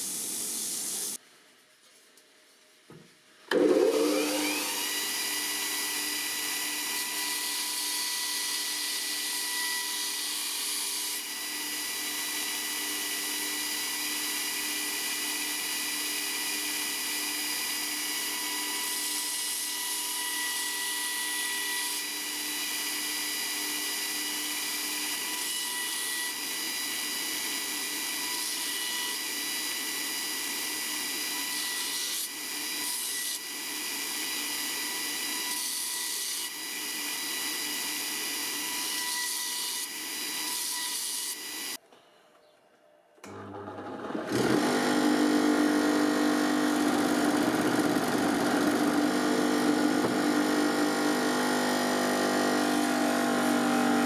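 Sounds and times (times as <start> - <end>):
power tool whining: 3.5 - 41.8, 43.2 - 54.0.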